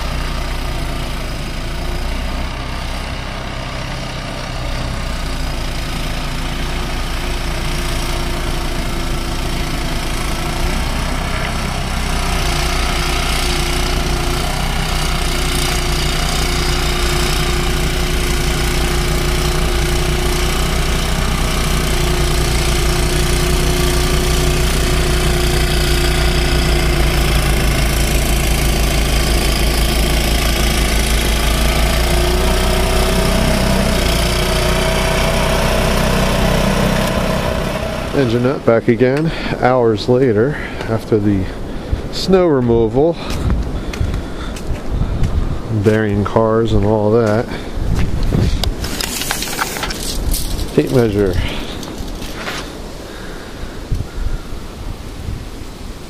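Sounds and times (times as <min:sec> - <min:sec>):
snow blower engine running: 0:00.0 - 0:54.5.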